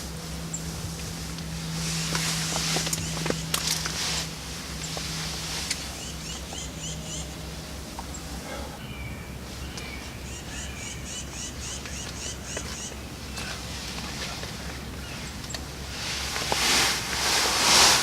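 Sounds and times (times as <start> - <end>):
songbird singing: 0.0 - 16.6.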